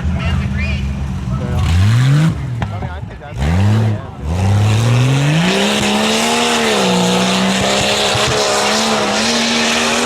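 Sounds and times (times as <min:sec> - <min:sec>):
truck engine revving hard: 0:01.1 - 0:10.0.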